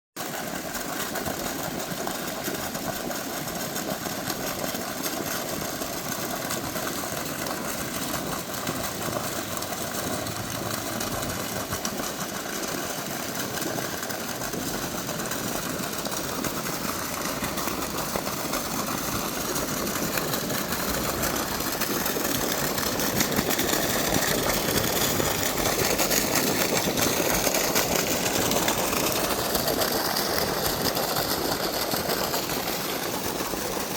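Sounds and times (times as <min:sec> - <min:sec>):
water splashing into basin: 0:00.5 - 0:33.9.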